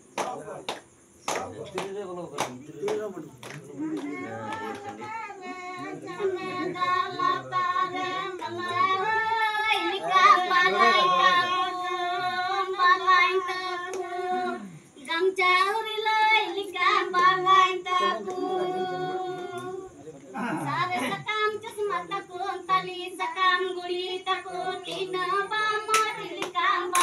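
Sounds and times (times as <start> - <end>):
women singing unaccompanied: 3.9 - 27.0.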